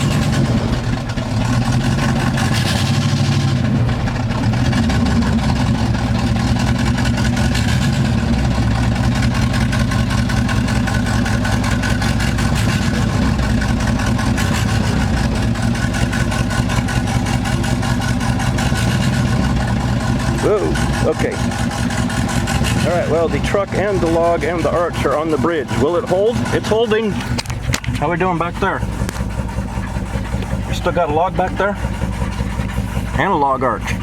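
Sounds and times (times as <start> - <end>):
pickup truck engine running: 0.0 - 34.0.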